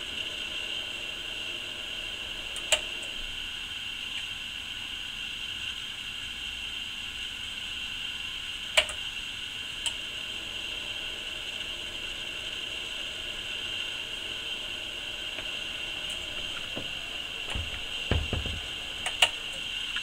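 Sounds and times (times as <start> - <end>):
cooling fan hiss: 0.0 - 20.0.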